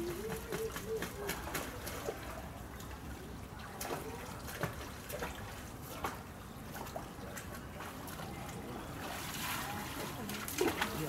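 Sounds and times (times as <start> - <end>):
light water drips: 0.0 - 11.0.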